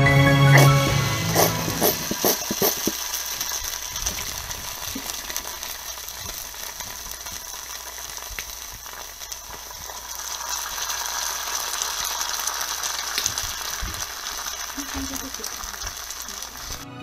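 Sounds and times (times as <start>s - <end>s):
patties frying in oil: 1.4s - 16.8s.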